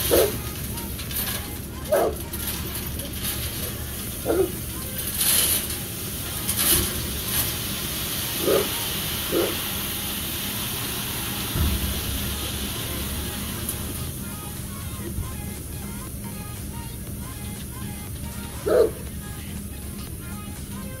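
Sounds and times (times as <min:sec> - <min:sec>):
diesel engine running: 0:00.0 - 0:21.0
gravel pouring with hiss: 0:00.0 - 0:21.0.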